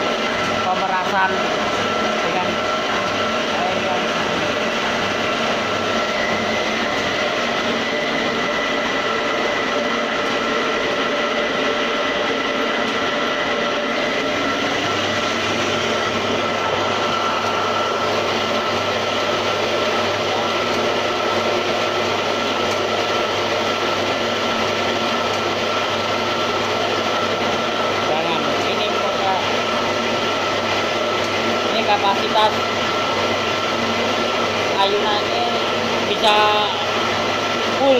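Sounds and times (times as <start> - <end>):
electric motor high whine: 0.0 - 37.9.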